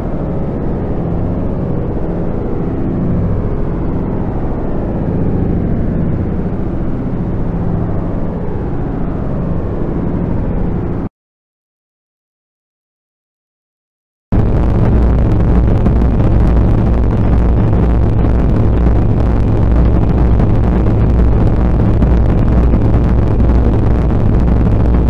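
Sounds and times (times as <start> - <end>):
dense droning noise with gliding tones: 0.0 - 11.1, 14.4 - 25.0.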